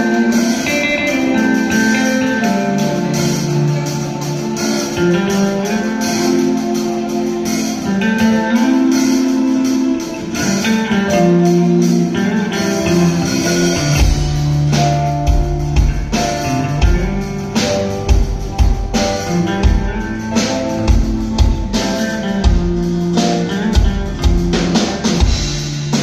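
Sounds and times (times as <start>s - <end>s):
drum kit: 0.0s - 26.0s
guitars: 0.0s - 26.0s
keyboard: 0.0s - 26.0s.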